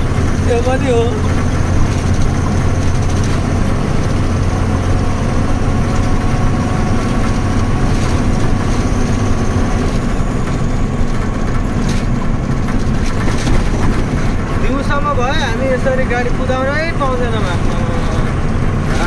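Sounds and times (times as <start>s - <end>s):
road noise inside cab: 0.0s - 19.0s
truck diesel engine running: 0.0s - 19.0s.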